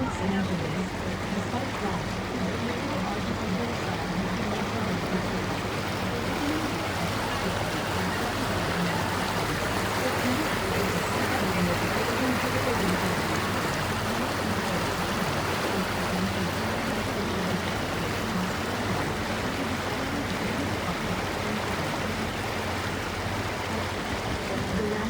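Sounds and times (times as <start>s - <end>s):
boat engine hum: 0.0s - 25.0s
water rushing: 0.0s - 25.0s.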